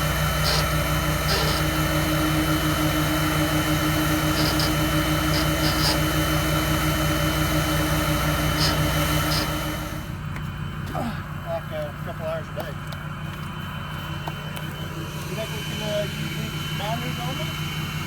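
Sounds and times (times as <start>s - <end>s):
heavy vehicle engine running: 0.0s - 18.0s.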